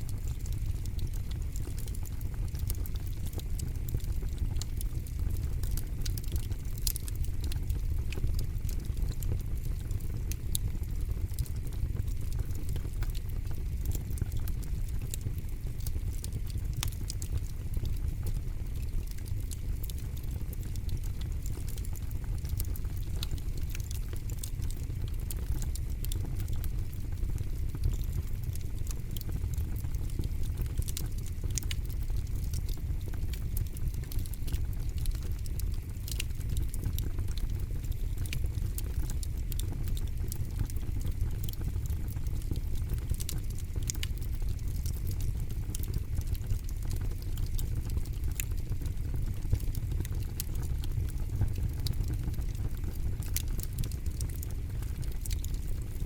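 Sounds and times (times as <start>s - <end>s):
campfire rumbling: 0.0s - 56.0s
wood fire crackling: 0.0s - 56.0s.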